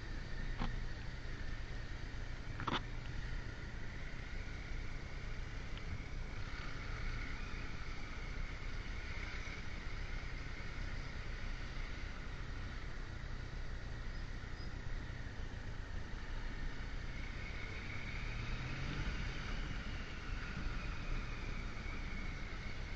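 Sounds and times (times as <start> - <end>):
motorcycle engine running: 0.0 - 22.9
road noise: 0.0 - 22.9.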